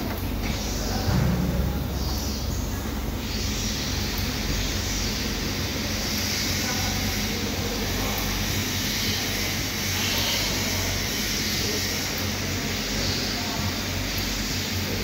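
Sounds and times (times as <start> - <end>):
low mains hum: 0.0 - 15.0
machine hiss: 0.0 - 15.0.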